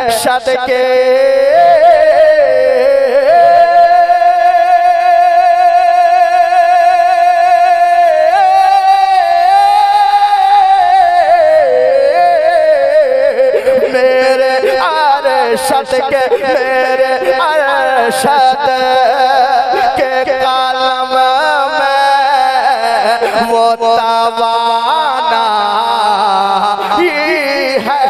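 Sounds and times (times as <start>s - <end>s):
man singing: 0.0s - 28.0s.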